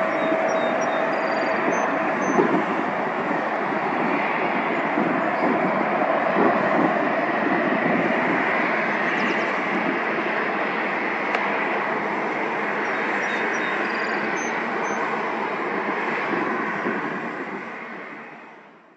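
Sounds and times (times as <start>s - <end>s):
jet aircraft roar: 0.0s - 18.9s.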